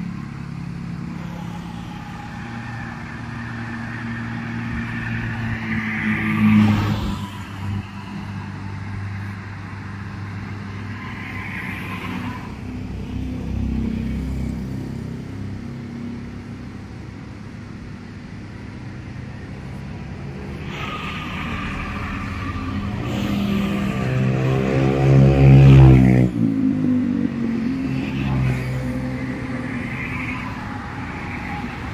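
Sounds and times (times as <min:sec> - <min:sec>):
vehicle passing close: 0:00.0 - 0:15.5, 0:19.3 - 0:31.9
highway traffic passing: 0:00.0 - 0:31.9.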